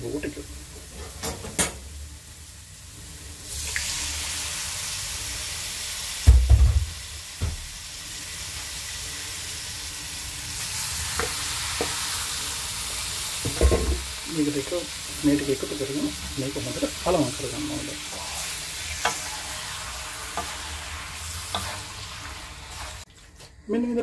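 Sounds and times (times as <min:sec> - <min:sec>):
oil sizzling in a wok: 0:00.0 - 0:23.3.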